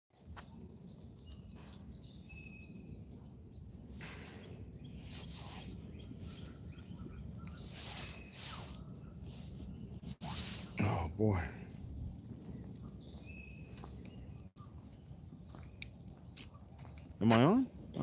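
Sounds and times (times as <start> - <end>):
wind rumble: 0.2 - 18.0
faint bird calls: 1.5 - 18.0.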